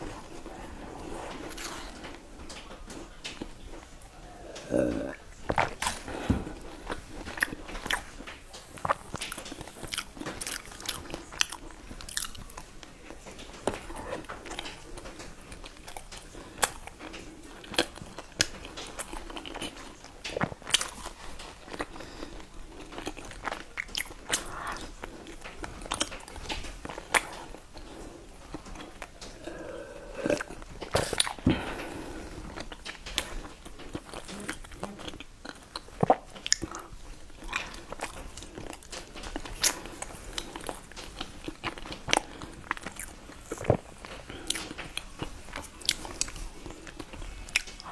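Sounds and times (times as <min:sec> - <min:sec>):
chewing and biting: 0:00.0 - 0:47.9.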